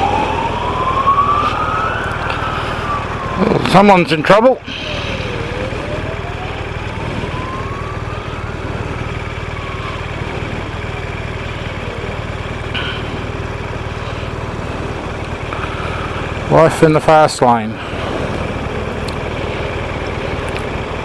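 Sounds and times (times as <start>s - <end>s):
faint siren wailing: 0.0s - 21.0s
motorcycle engine idling: 0.0s - 21.0s.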